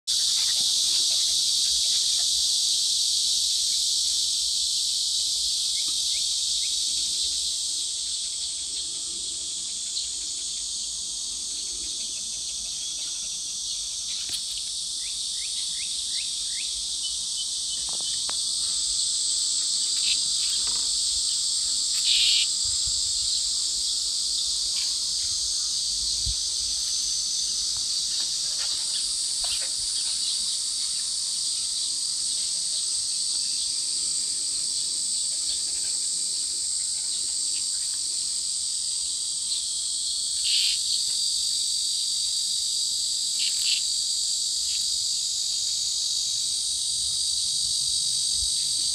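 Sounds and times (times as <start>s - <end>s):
cicadas buzzing: 0.1s - 48.9s.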